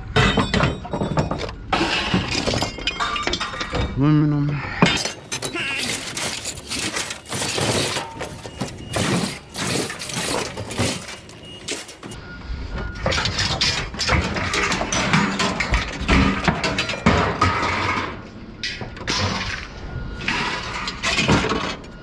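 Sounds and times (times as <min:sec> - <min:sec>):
metal scrap clanking onto pile: 0:00.0 - 0:04.0, 0:04.8 - 0:12.2, 0:13.0 - 0:22.0.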